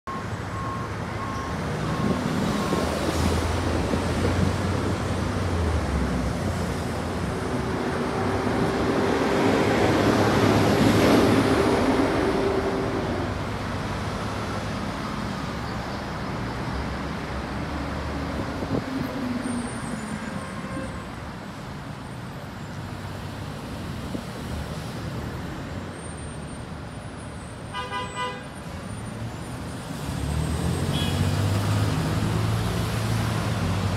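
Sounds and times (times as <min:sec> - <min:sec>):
road traffic: 0:00.0 - 0:33.9.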